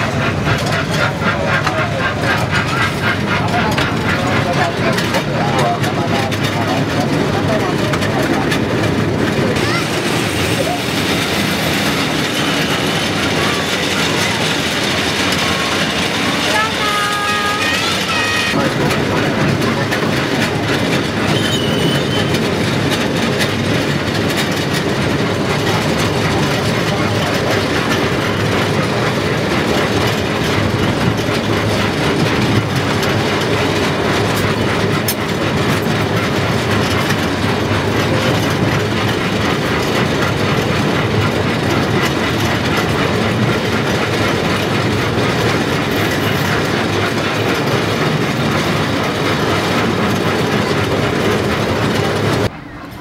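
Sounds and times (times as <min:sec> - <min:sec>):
miniature train wheels clattering: 0:00.0 - 0:53.0.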